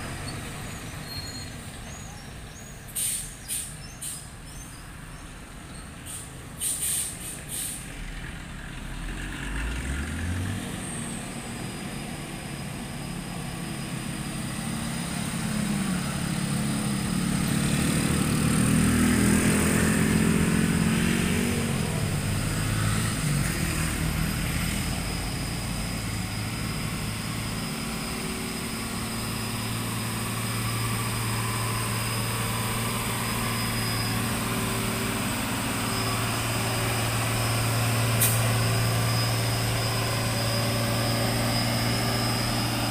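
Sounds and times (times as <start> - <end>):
diesel truck engine labouring: 0.0 - 42.9.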